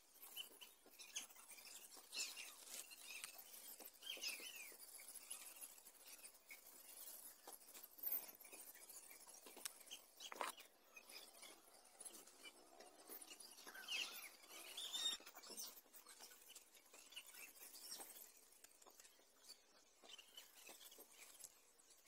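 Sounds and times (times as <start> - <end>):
faint high chirps: 0.0 - 22.0.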